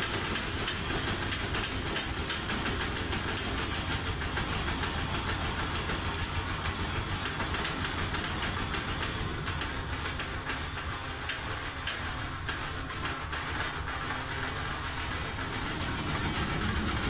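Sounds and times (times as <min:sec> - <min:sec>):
washing machine banging and rattling: 0:00.0 - 0:17.0
washing machine mechanical drone: 0:00.0 - 0:17.0.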